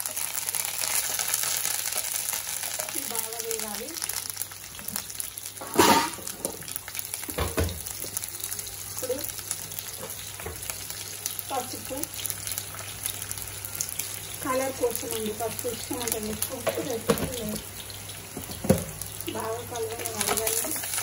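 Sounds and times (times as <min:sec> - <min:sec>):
chillies sizzling in hot oil: 0:00.0 - 0:21.0.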